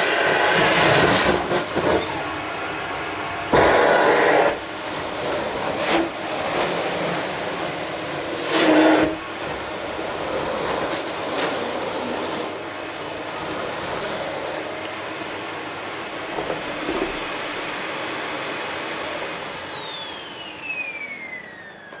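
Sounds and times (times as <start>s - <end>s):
vacuum cleaner rushing: 0.0s - 22.0s
motor whine spinning down: 0.1s - 10.9s, 12.4s - 22.0s.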